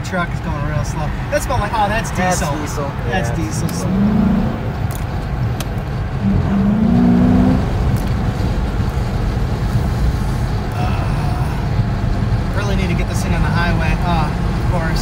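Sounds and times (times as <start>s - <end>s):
car engine rumbling: 0.0s - 15.0s
road noise: 0.0s - 15.0s.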